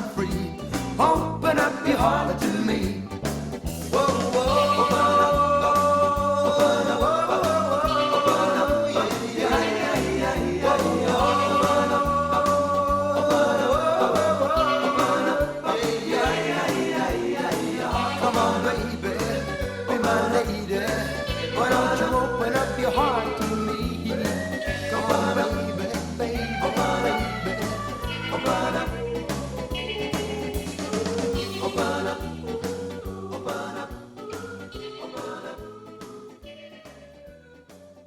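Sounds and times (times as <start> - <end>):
rock and roll instrumental music: 0.0 - 38.0.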